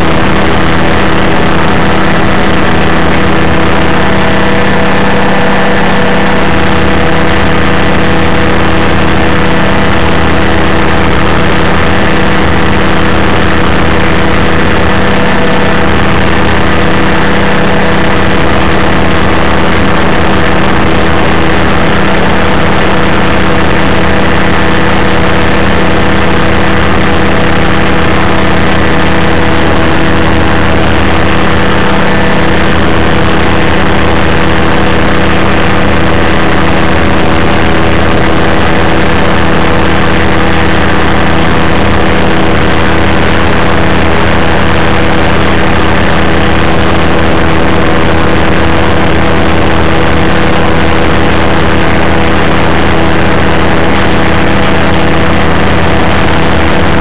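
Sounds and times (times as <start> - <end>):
aircraft engine and propeller drone: 0.0 - 57.0.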